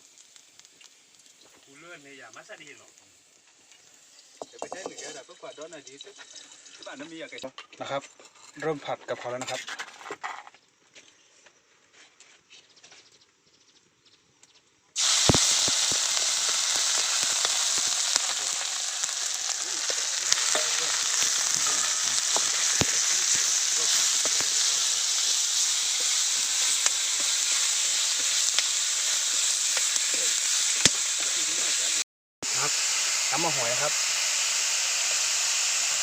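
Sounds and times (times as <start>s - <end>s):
food sizzling in hot oil: 0.0s - 8.6s, 15.0s - 36.0s.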